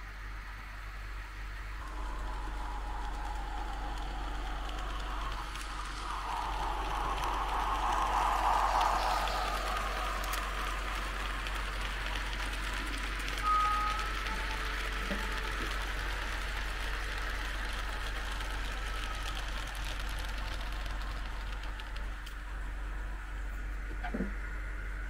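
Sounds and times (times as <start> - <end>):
model train wheels clattering: 1.8 - 22.6.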